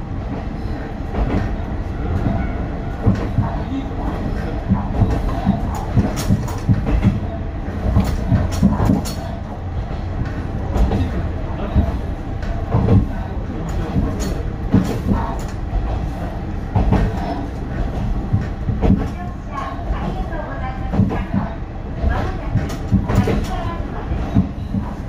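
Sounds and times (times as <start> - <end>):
railcar low rumble: 0.0 - 25.0.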